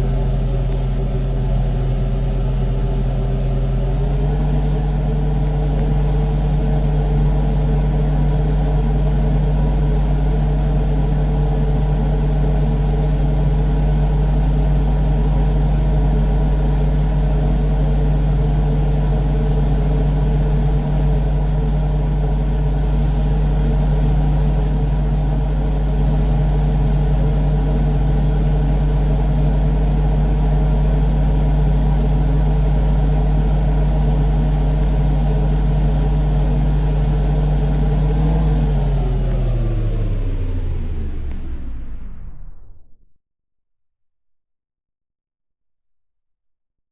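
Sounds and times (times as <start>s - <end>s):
electric fan humming: 0.0s - 41.5s.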